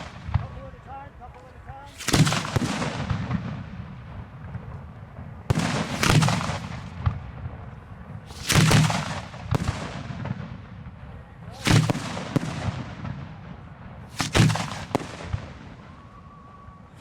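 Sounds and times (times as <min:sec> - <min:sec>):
firework sharp crack: 0:00.0 - 0:00.7, 0:01.9 - 0:16.0
fireworks booming: 0:00.0 - 0:00.9, 0:01.6 - 0:17.0.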